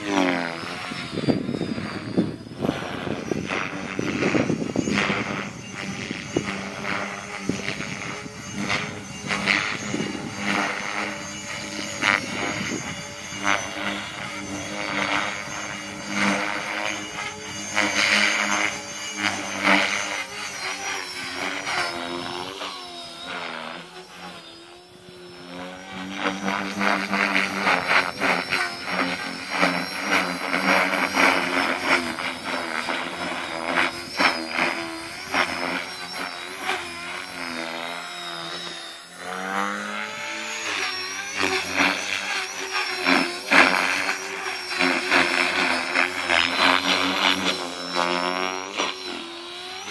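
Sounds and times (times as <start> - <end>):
rc helicopter motor and rotors: 0.0 - 49.9.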